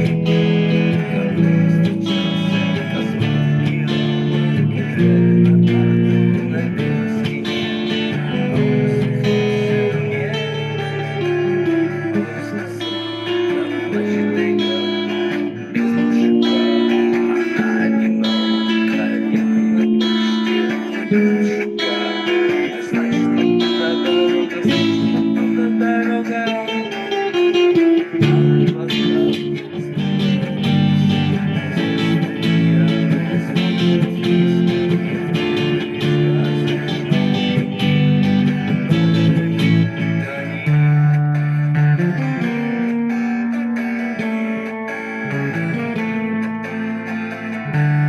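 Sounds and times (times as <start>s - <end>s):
instrumental guitar music: 0.0s - 48.0s.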